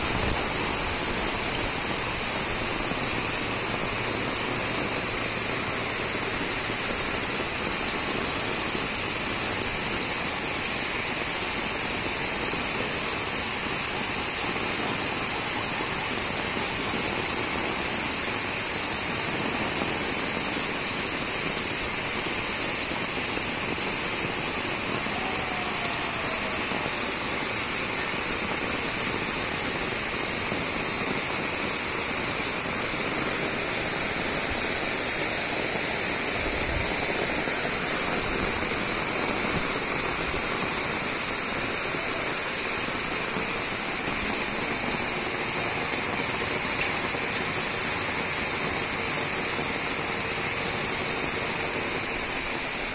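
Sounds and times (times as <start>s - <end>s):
heavy rain on concrete roof: 0.0s - 52.9s.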